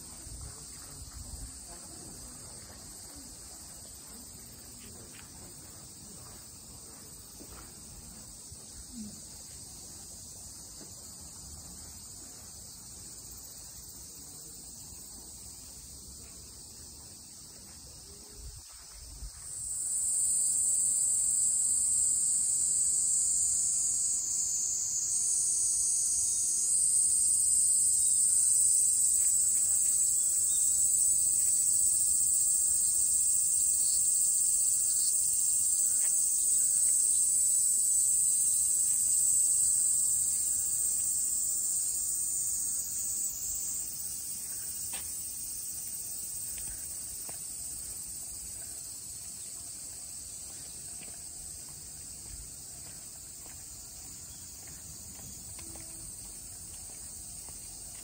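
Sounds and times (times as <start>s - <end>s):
cicadas shrilling: 0.0s - 58.0s.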